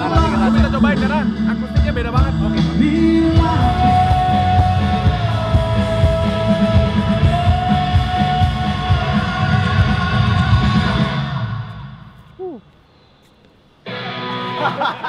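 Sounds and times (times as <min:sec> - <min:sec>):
pop-rock band playing: 0:00.0 - 0:11.7, 0:13.9 - 0:15.0.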